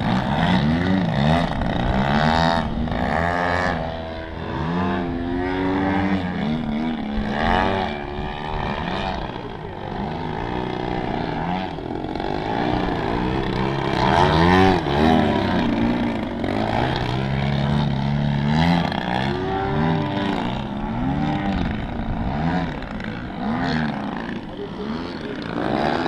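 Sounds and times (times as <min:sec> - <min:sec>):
model plane engines: 0:00.0 - 0:26.0.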